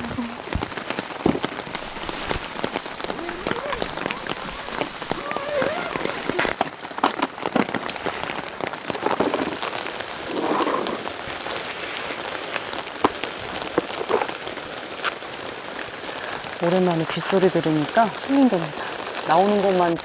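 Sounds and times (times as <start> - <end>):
heavy rain: 0.0 - 20.0
raindrops ticking on surface: 0.0 - 20.0.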